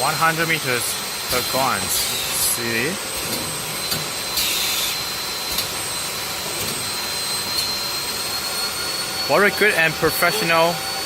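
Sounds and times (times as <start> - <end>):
high-pitched whine: 0.0 - 11.0
machinery whirring: 0.0 - 11.0.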